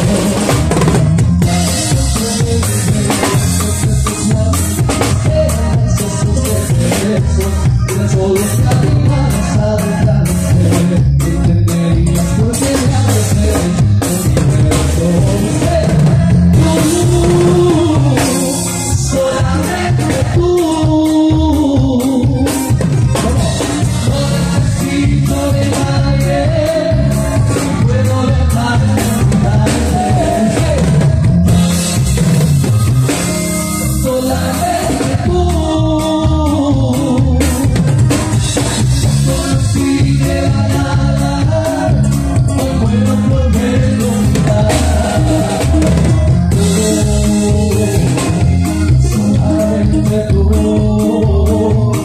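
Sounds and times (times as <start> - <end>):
person singing: 0.0 - 31.8, 33.8 - 52.0
live dance band music: 0.0 - 52.0.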